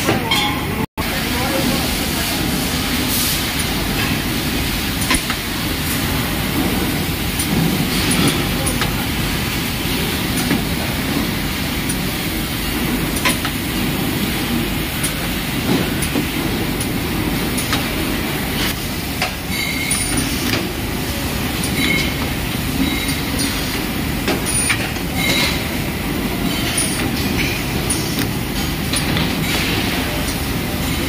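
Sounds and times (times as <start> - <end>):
workshop machinery rumble: 0.0 - 31.0.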